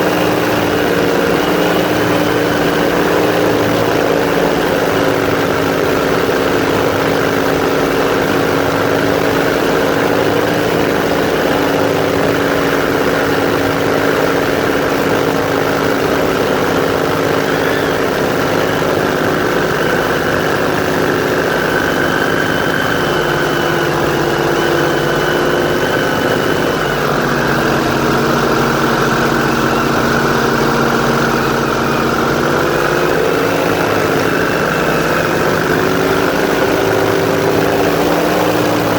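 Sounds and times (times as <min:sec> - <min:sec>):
airboat engine and propeller: 0:00.0 - 0:38.9.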